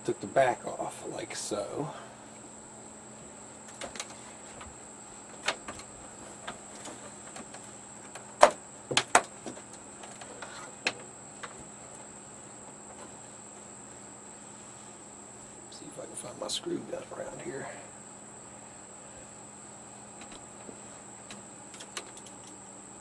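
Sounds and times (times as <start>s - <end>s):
faint high-pitched whine: 0.0s - 23.0s.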